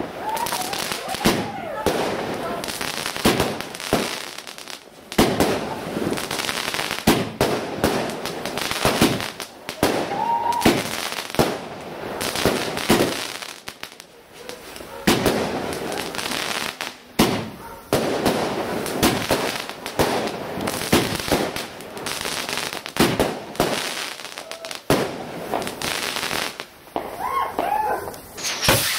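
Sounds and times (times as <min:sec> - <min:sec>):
fireworks bangs: 0:00.0 - 0:28.9
fireworks crackle and hiss: 0:00.0 - 0:28.9.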